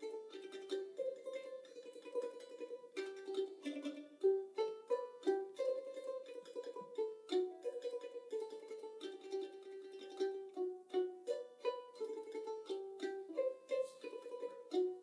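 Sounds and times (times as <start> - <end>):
plucked string melody: 0.0 - 15.0.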